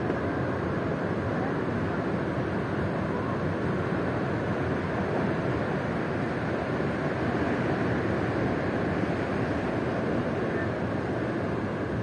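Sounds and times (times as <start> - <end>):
ocean surf: 0.0 - 12.0
wind: 0.0 - 12.0.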